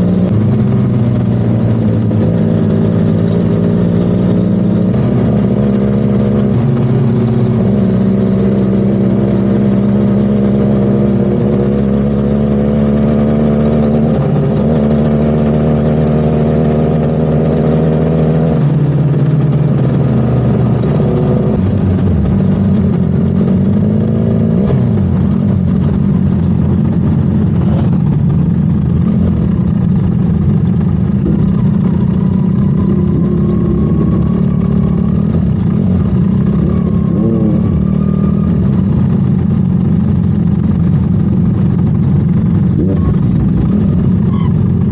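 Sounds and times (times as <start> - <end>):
motorcycle engines running: 0.0 - 44.9.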